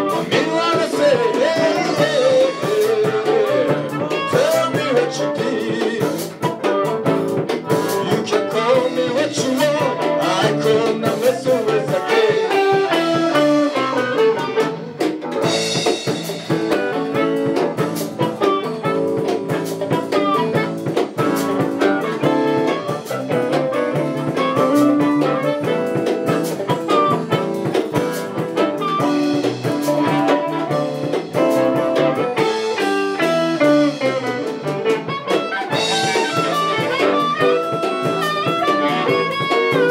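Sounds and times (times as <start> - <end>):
live band with electric guitars: 0.0 - 39.9.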